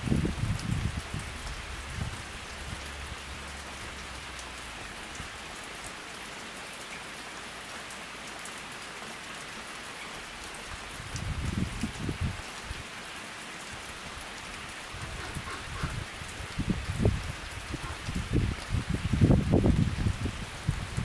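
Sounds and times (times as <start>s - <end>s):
rain falling on pond and foliage: 0.0s - 21.0s.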